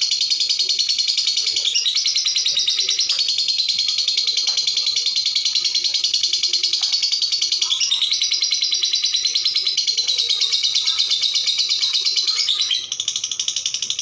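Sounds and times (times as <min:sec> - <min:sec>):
lovebird chattering song: 0:00.0 - 0:14.0.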